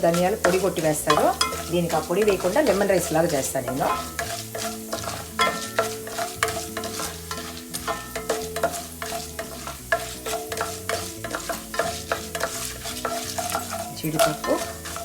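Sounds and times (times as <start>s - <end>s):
seeds sizzling in hot oil: 0.0s - 15.0s
spatula scraping and knocking pan: 0.0s - 15.0s.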